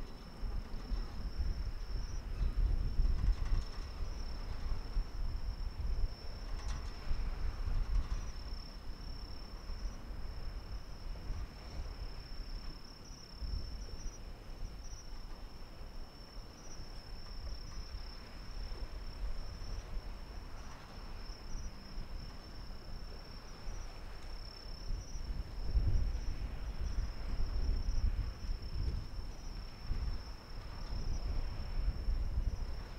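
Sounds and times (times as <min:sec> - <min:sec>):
insects trilling: 0:00.0 - 0:32.9.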